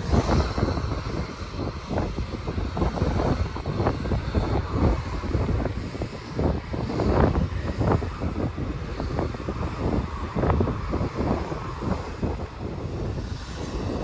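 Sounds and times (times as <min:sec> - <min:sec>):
gusty wind on microphone: 0:00.0 - 0:14.0.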